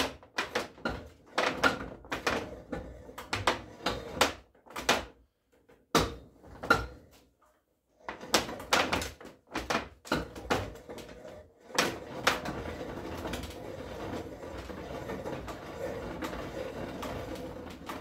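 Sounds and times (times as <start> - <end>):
wood and metal knocks and clicks: 0.0 - 7.1, 8.0 - 18.0.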